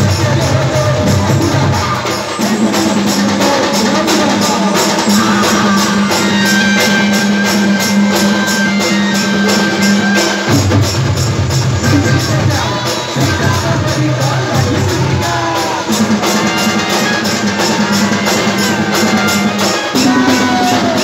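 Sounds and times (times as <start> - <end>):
hand drums beat: 0.0 - 21.0.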